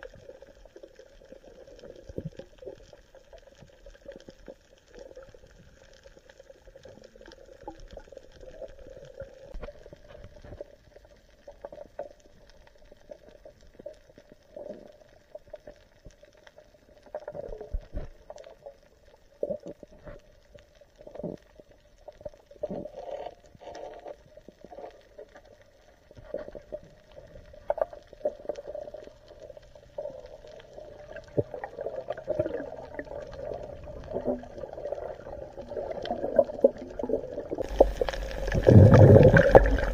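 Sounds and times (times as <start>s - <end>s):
underwater water bubbling: 0.0s - 39.9s.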